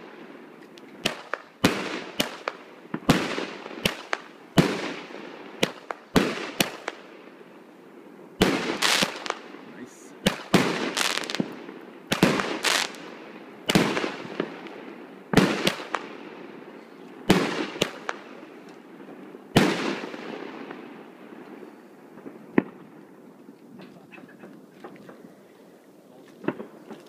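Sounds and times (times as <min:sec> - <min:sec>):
fireworks bursting overhead: 0:00.0 - 0:25.4.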